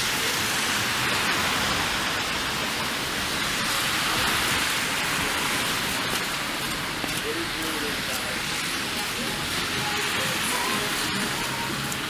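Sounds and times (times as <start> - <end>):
freezing rain and sleet hiss: 0.0 - 12.0.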